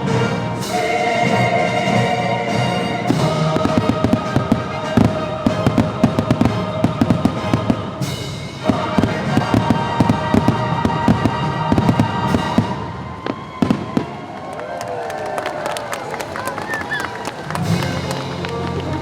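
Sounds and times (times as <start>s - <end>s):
music: 0.0s - 13.4s, 17.0s - 19.0s
fireworks bangs: 3.2s - 19.0s.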